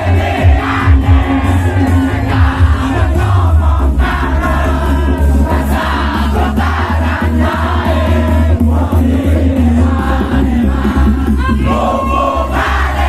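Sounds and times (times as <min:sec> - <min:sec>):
group of voices singing: 0:00.0 - 0:13.0
heavy deep bass: 0:00.0 - 0:13.0.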